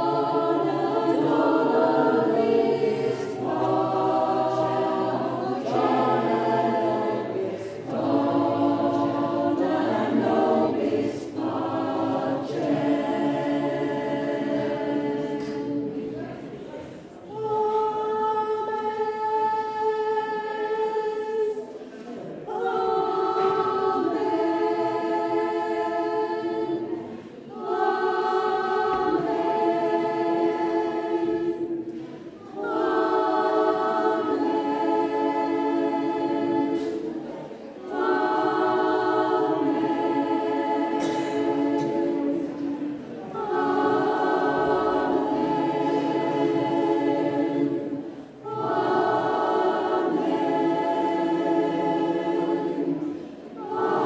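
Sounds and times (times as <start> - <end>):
mixed choir singing in harmony: 0.0 - 54.0.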